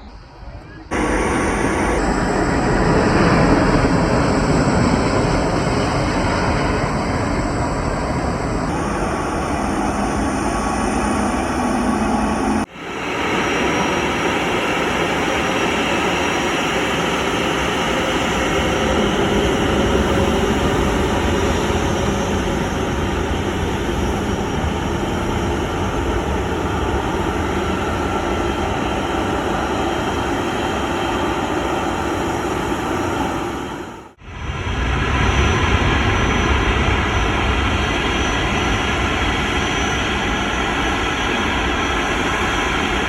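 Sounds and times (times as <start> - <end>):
faint high whine: 0.0 - 43.0
jet engines rushing: 0.0 - 43.0.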